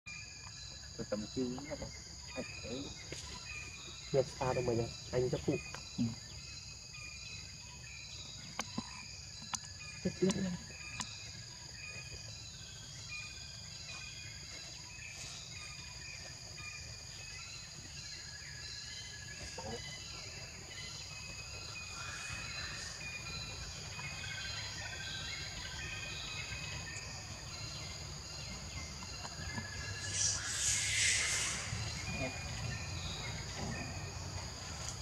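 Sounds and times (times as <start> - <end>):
insect chorus drone: 0.1 - 35.0.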